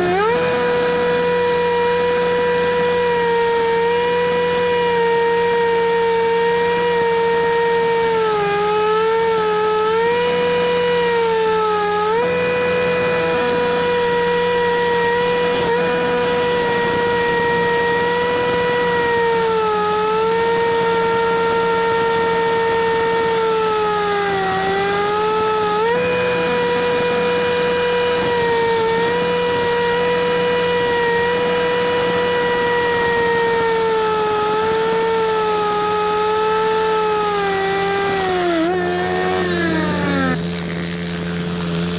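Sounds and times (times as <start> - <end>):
concrete cutting saw: 0.0 - 41.9.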